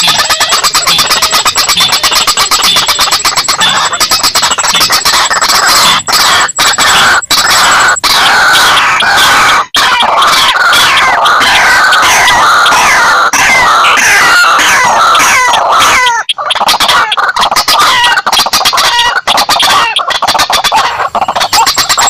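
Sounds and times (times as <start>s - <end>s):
sharp clicking bird notes: 0.0s - 22.0s
waterbirds harsh repeated calls: 0.0s - 22.0s.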